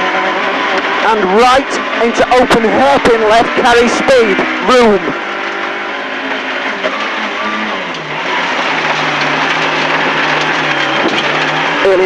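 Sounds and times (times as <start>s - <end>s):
car engine under hard driving: 0.0s - 12.0s
tyre and road noise: 0.0s - 12.0s.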